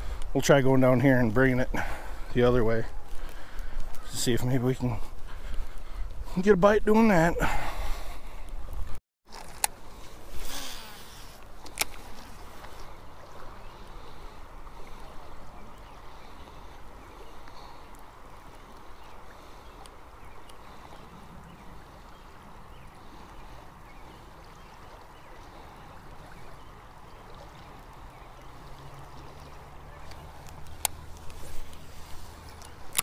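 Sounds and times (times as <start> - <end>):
river current rushing: 0.0 - 33.0.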